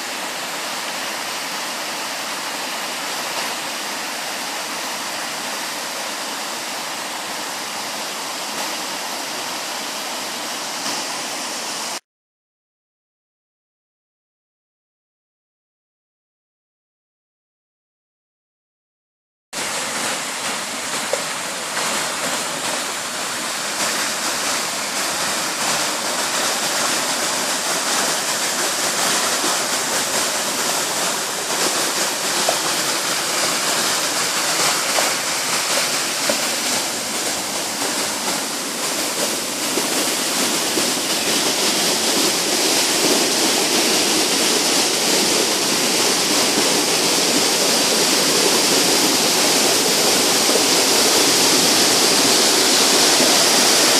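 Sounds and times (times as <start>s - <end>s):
waterfall rushing: 0.0s - 12.0s, 19.6s - 53.9s.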